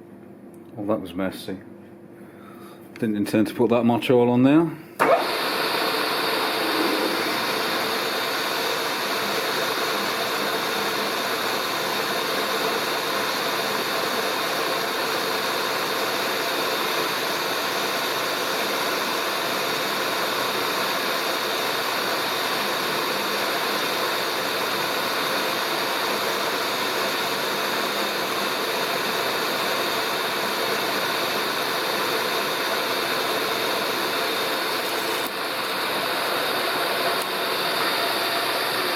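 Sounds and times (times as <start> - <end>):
milling machine drilling aluminium: 5.0 - 38.9.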